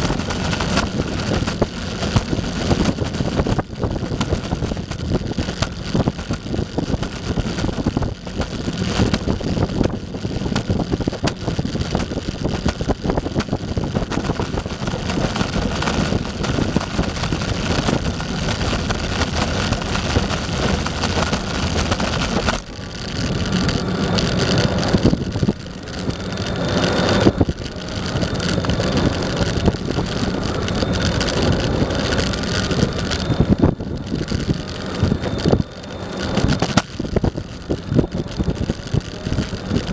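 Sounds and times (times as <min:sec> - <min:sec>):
skateboard wheels rumbling: 0:00.0 - 0:39.9
wind buffeting microphone: 0:00.0 - 0:39.9.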